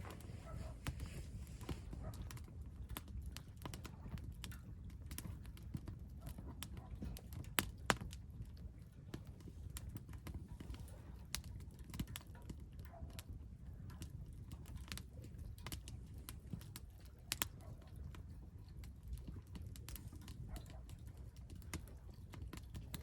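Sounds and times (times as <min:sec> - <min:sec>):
low fire rumble: 0:00.0 - 0:23.0
wood fire crackling and popping: 0:00.0 - 0:23.0.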